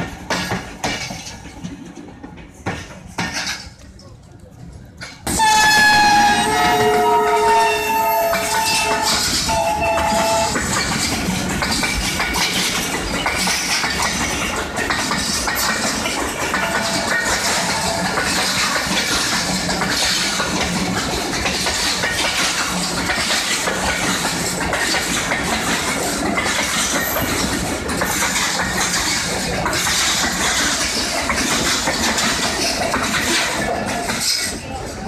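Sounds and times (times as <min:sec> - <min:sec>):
clattering wheel clacks: 0:00.0 - 0:04.0, 0:04.7 - 0:35.0
train wheels rumbling on rails: 0:00.0 - 0:35.0.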